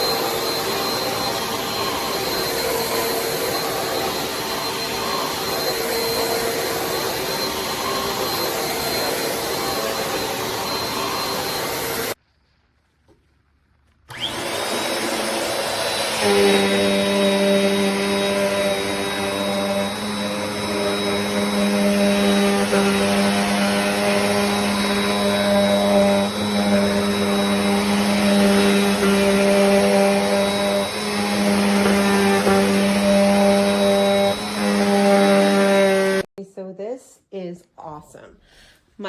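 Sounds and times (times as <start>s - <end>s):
vacuum cleaner motor hum: 0.0s - 12.2s, 14.1s - 36.3s.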